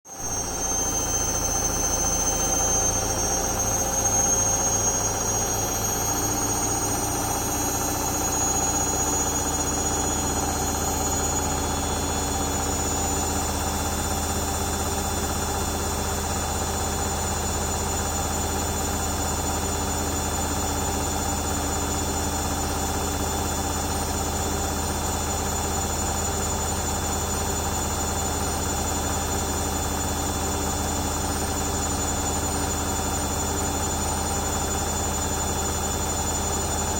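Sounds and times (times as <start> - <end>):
washing machine spinning: 0.2 - 36.9.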